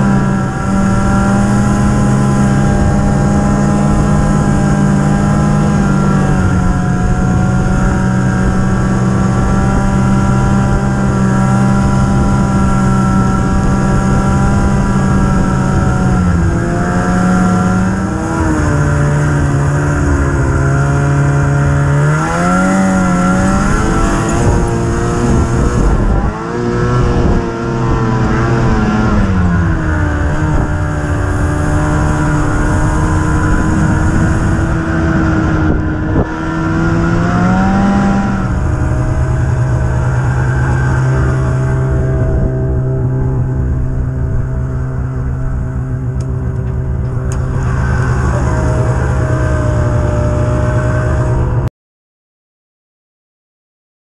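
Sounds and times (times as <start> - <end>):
snowmobile engine running: 0.0 - 51.7.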